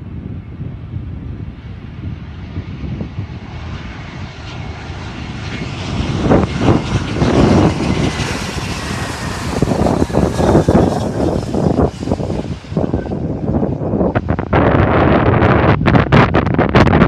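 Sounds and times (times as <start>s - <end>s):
airplane engines droning: 0.0s - 17.0s.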